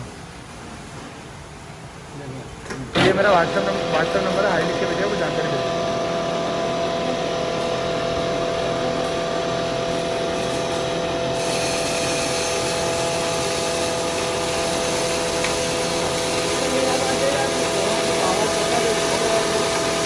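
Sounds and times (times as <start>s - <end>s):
grinder motor running: 3.0s - 20.0s.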